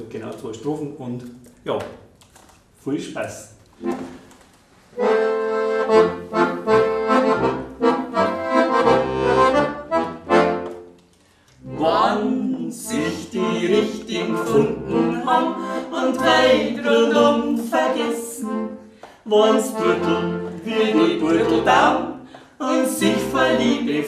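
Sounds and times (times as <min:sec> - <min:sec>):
piano accordion playing: 0:03.8 - 0:24.0.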